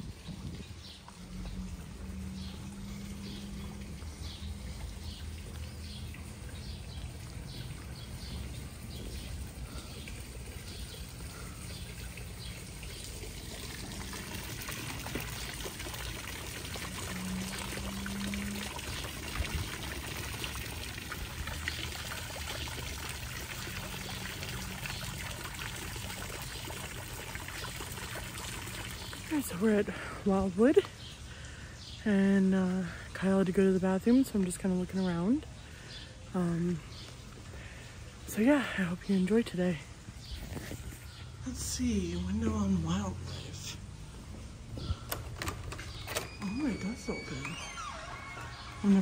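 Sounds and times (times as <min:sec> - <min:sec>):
fountain water splashing: 0:00.0 - 0:40.3, 0:46.4 - 0:49.0.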